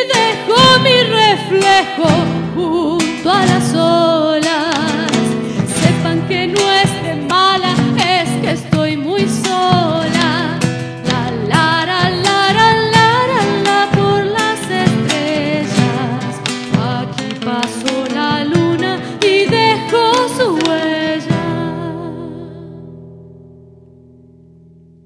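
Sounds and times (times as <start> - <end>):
hand percussion: 0.0 - 21.7
acoustic guitar: 0.0 - 25.0.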